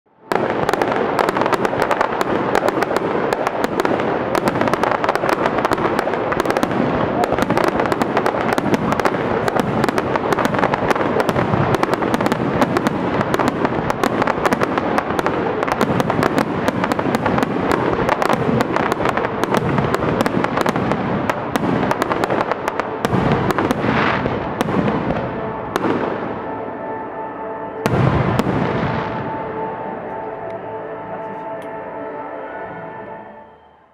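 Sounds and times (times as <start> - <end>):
fireworks banging and crackling: 0.2 - 26.6, 27.8 - 29.8.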